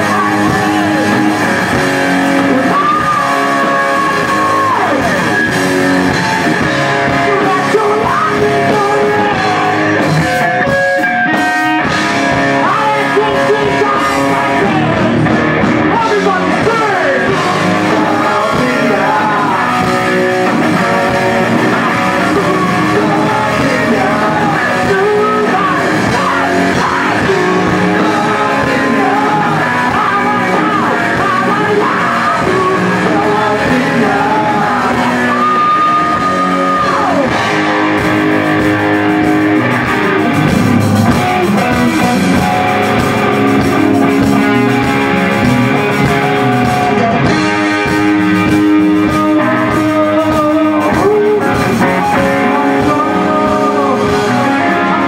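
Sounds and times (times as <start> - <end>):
lead vocal singing: 0.0 - 55.0
live hard rock band: 0.0 - 55.0.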